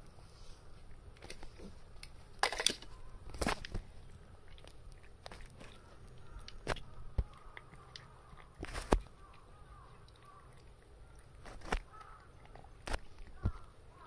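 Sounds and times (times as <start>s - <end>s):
cats crunching food: 0.0s - 14.0s.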